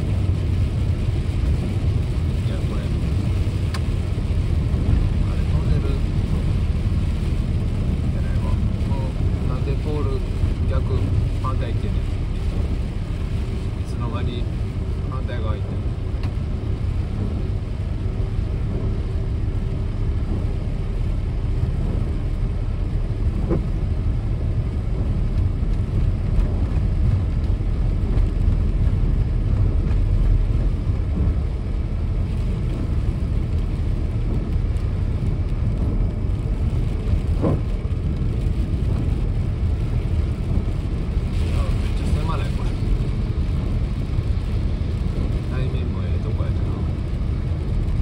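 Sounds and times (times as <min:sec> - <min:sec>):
car road noise in rain: 0:00.0 - 0:48.0.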